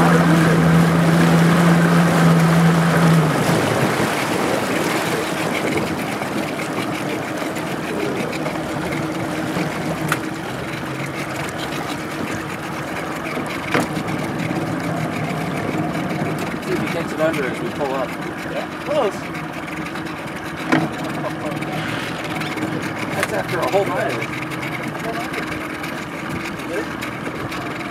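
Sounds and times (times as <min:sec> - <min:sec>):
outboard motor running slowly: 0:00.0 - 0:27.9
water washing along hull: 0:00.0 - 0:27.9.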